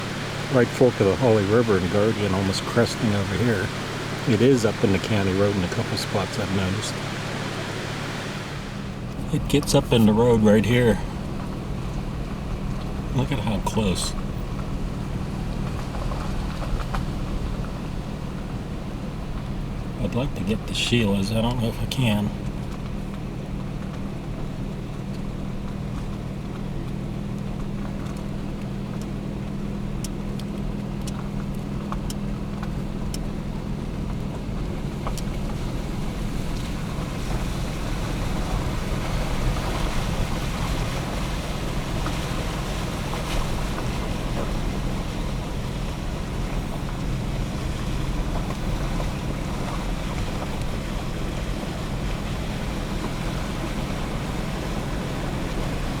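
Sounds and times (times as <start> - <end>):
road and wind noise: 0.0 - 56.0
vehicle engine hum: 0.0 - 56.0.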